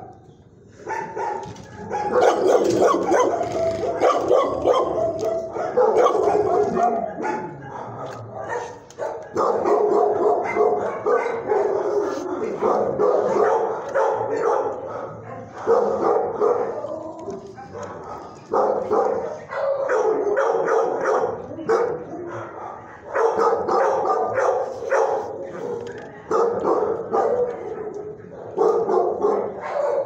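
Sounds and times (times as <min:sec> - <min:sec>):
dogs barking and yipping: 0:00.0 - 0:30.0.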